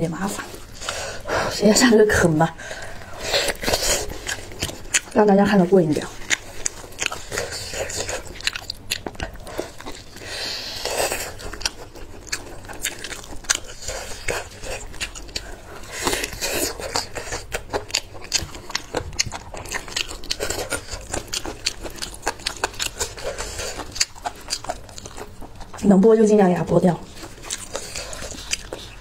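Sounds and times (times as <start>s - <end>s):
tearing at meat: 3.0s - 25.9s, 27.0s - 29.0s
wet chewing clicks and smacks: 3.5s - 10.2s, 10.9s - 25.9s, 27.1s - 29.0s.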